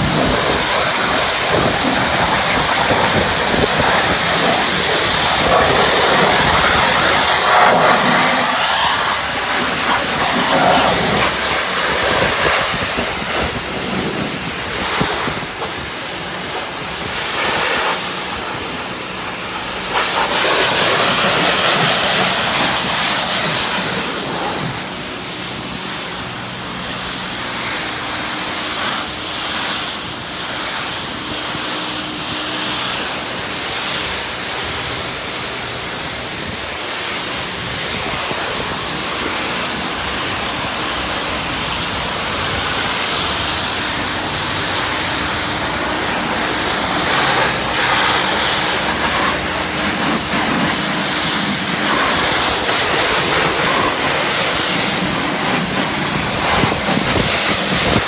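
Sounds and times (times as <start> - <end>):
pressure washer spraying car: 0.0 - 58.0
pump machinery humming: 0.0 - 58.0.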